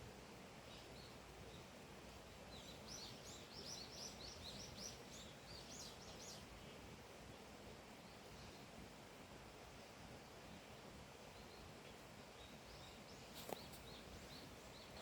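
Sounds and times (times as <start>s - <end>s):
faint outdoor hiss: 0.0s - 15.0s
songbird chirping: 0.4s - 15.0s.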